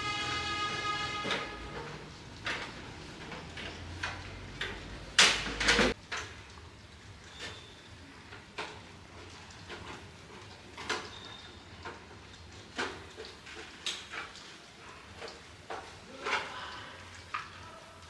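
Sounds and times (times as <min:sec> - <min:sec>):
clatter of objects: 0:01.2 - 0:06.6, 0:07.2 - 0:17.6.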